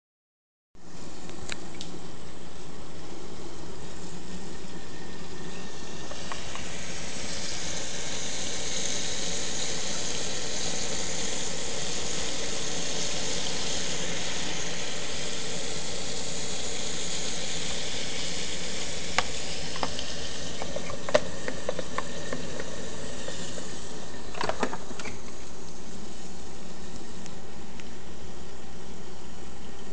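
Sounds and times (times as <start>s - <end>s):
fizzing hiss of bubbling water: 1.0s - 29.9s
pump running: 2.2s - 27.0s.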